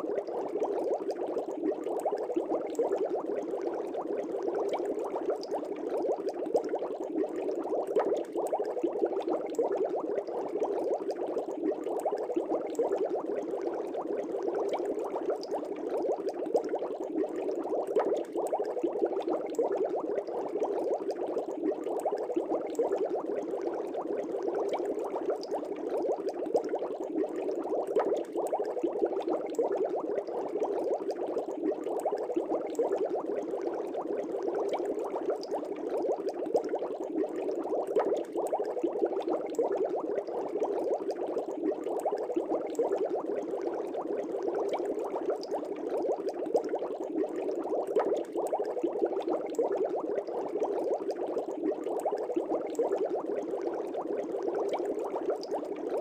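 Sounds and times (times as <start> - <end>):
aquarium air bubbling: 0.0 - 56.0.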